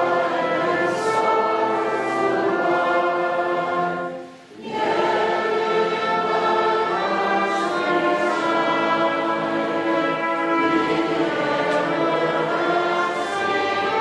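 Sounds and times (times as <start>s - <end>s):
orchestra and choir performing: 0.0s - 14.0s.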